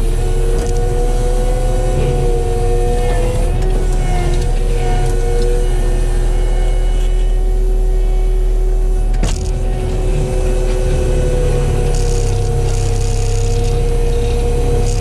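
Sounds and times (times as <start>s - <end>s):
diesel engine under load: 0.0s - 15.0s
mulcher whine: 0.0s - 15.0s.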